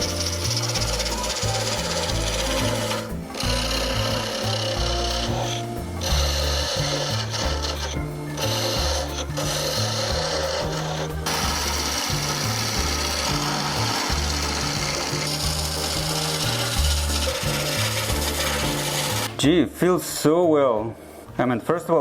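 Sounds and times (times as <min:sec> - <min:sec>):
lathe tool scraping wood: 0:00.0 - 0:19.4
jazz music with walking bass: 0:00.0 - 0:21.5.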